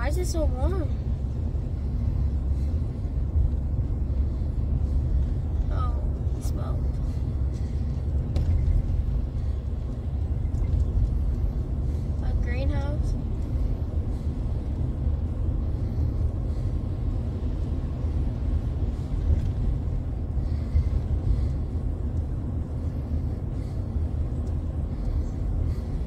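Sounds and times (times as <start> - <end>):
truck engine rumble and road noise: 0.0 - 26.0.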